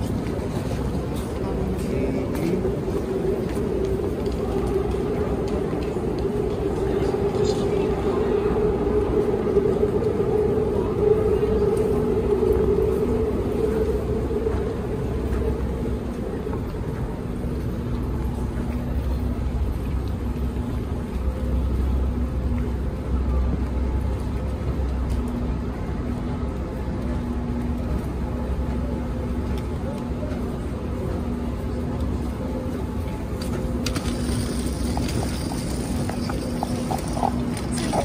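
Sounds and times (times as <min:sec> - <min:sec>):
continuous low rumble: 0:00.0 - 0:38.0.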